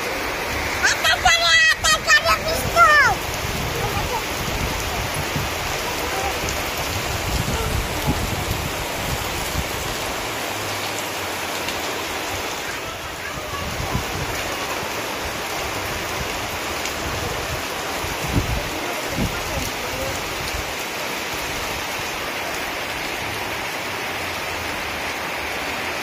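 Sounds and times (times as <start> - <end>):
heavy rain on leaves: 0.0 - 26.0.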